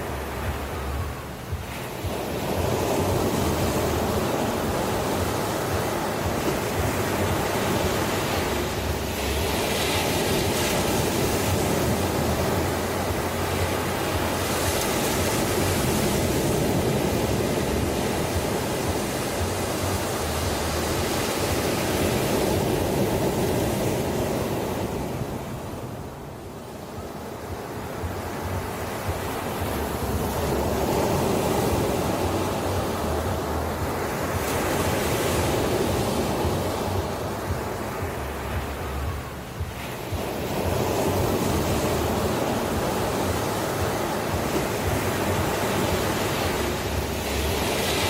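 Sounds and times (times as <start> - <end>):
ocean waves breaking: 0.0 - 48.0.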